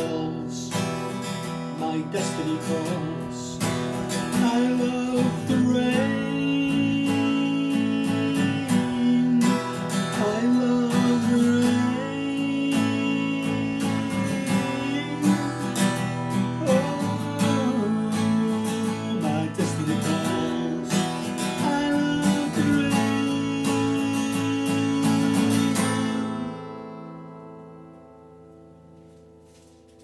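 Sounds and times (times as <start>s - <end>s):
man singing: 0.0s - 27.2s
acoustic guitar strumming: 0.0s - 30.0s.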